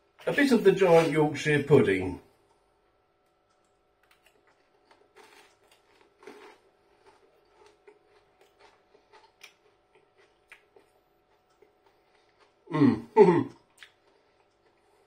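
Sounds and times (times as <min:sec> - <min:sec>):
faint crunchy chewing: 0:02.4 - 0:15.0.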